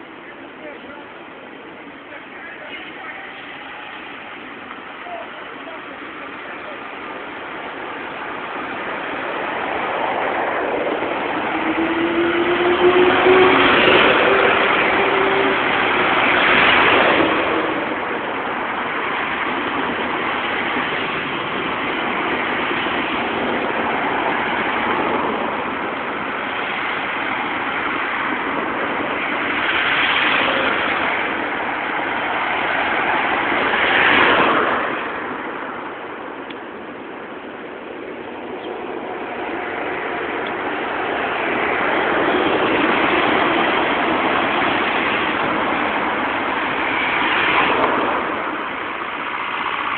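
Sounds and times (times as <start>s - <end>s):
bus and cars driving past: 0.0s - 49.9s
engine whine: 0.0s - 49.9s
steady hum of tyres and engines: 0.0s - 49.9s.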